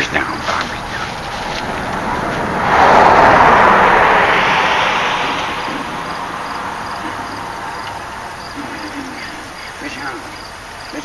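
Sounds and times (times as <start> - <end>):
road vehicle passing: 0.0 - 11.0.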